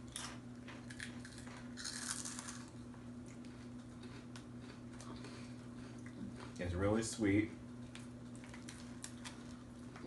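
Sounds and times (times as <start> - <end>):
crunching of snack being eaten: 0.0 - 6.6, 8.0 - 10.0
low electrical hum: 0.0 - 10.0.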